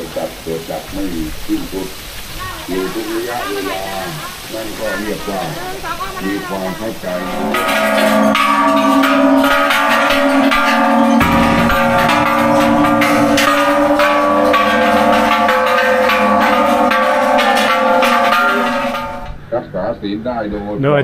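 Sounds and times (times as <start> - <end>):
temple bells ringing: 2.7 - 19.6.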